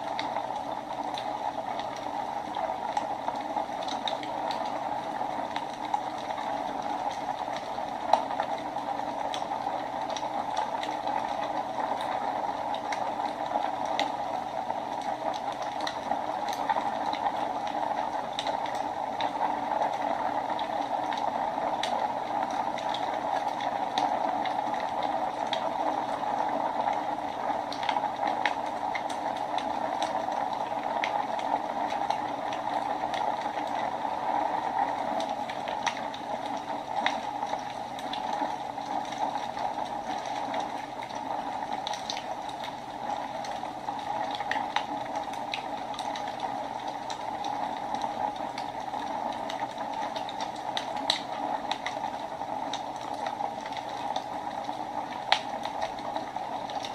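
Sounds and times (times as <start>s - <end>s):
fire crackling and popping: 0.0s - 56.9s
fireplace fire hissing: 0.0s - 56.9s.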